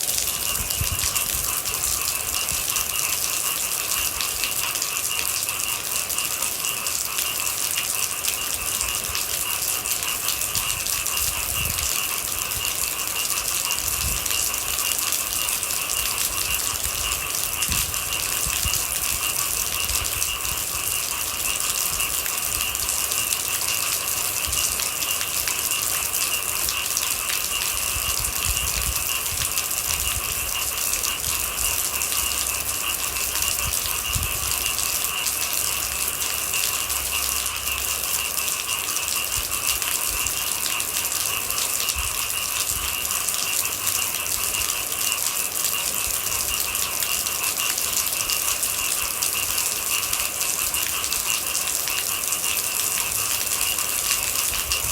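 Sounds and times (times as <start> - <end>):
rain pattering: 0.0 - 54.9.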